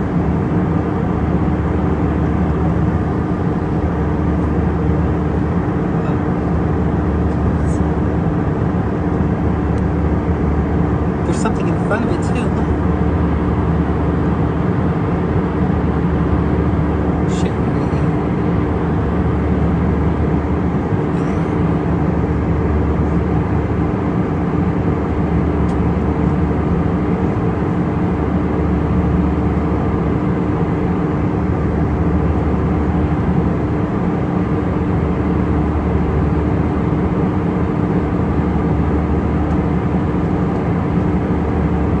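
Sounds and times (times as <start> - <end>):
vehicle engine drone: 0.0 - 42.0.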